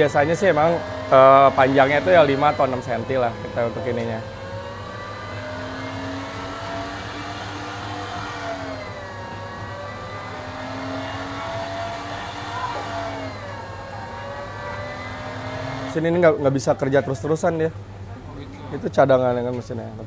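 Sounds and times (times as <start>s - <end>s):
low hum: 0.0s - 16.4s
meat grinder motor whine: 0.0s - 18.0s.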